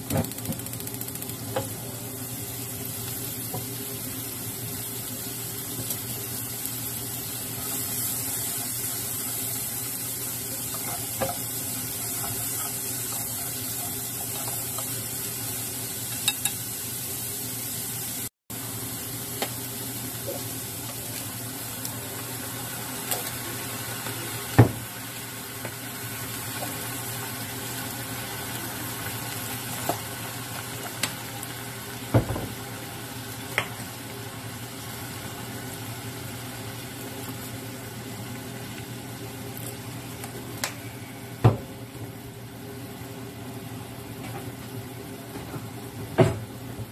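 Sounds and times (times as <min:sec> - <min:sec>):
onion sizzling in frying pan: 0:00.0 - 0:46.9.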